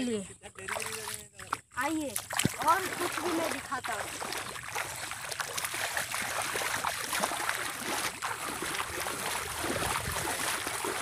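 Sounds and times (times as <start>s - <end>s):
feet splashing in muddy water: 0.5s - 11.0s.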